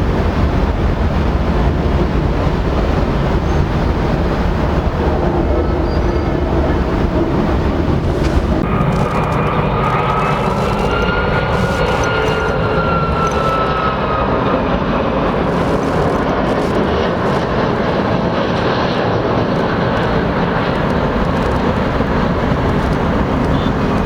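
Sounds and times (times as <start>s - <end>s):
airliner engines rumble and whine: 0.0s - 24.0s.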